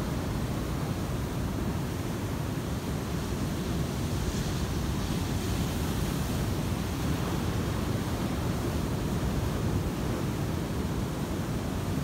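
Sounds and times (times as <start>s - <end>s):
surf washing over shallows: 0.0s - 12.0s.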